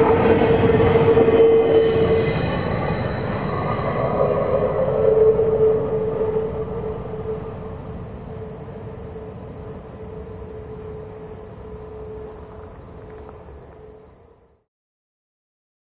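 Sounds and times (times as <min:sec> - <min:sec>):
freight train rumbling: 0:00.0 - 0:13.3
high insect trill: 0:00.3 - 0:14.6.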